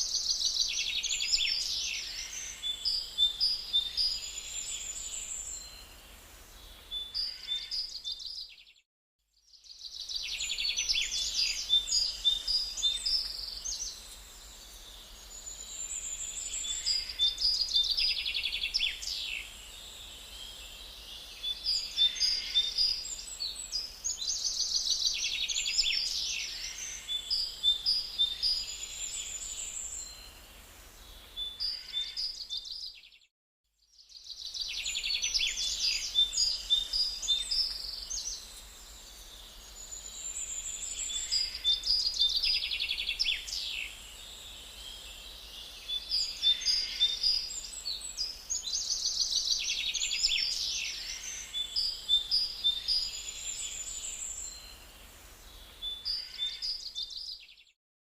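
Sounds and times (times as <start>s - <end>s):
songbirds singing and chirping: 0.0s - 57.8s.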